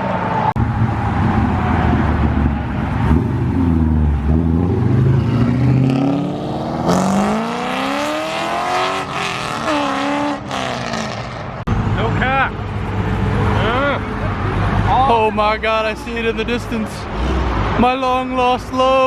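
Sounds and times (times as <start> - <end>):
car engine accelerating: 0.0 - 16.1.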